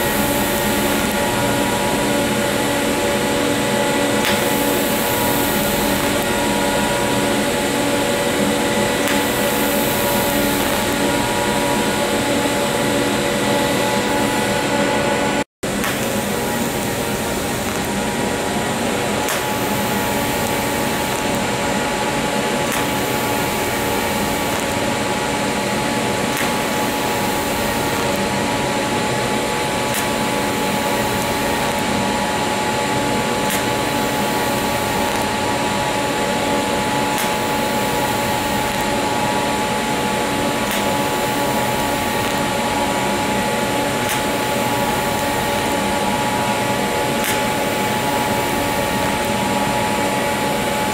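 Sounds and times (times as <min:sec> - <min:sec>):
welding arc hissing: 0:00.0 - 0:50.9.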